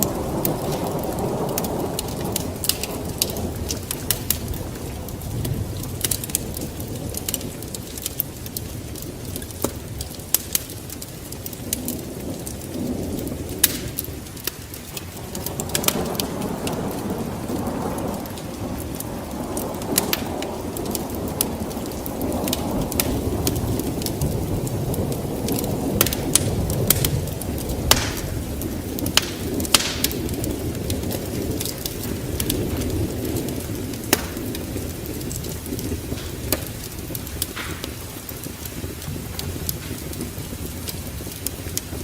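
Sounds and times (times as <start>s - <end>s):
sharp crackling pops: 0.0s - 42.0s
steady rain: 0.0s - 42.0s
thunder rumbling: 0.0s - 42.0s.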